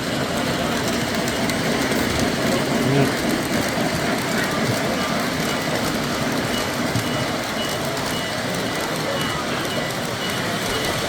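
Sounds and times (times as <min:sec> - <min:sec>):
crowd chatter: 0:00.0 - 0:11.0.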